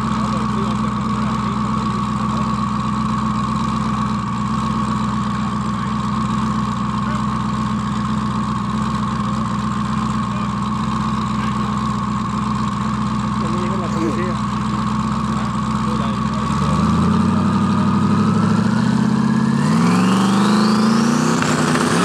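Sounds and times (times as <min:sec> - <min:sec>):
car engine running steadily: 0:00.0 - 0:22.0.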